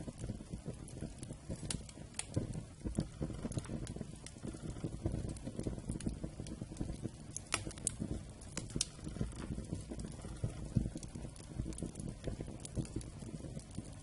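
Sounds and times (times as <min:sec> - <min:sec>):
campfire flames rushing: 0:00.0 - 0:14.0
wood crackling and popping: 0:00.0 - 0:14.0.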